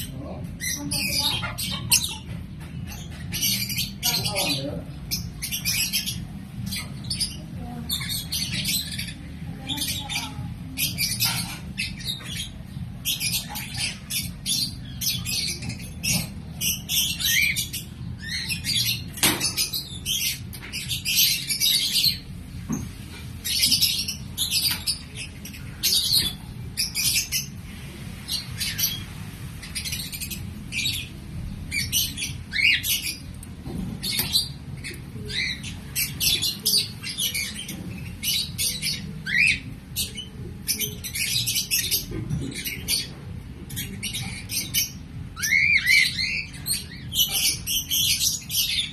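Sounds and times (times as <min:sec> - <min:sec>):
lovebirds chirping and squawking: 0:00.0 - 0:48.9.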